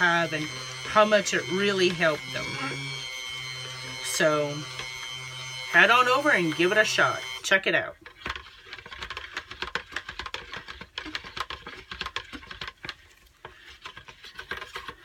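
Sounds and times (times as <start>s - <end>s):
stick blender clicking in batter: 0.0s - 15.0s.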